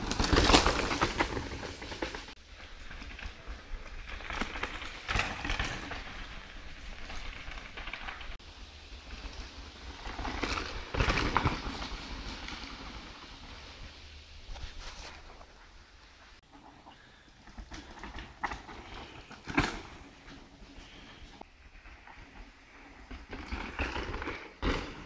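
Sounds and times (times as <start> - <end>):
mountain bikes riding on dirt trail: 0.0 - 25.0.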